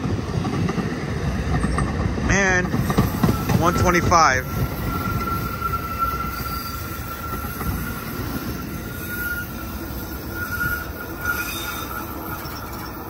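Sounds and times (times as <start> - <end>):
low rumble of train cars: 0.0 - 13.0
train wheels squealing: 1.6 - 13.0.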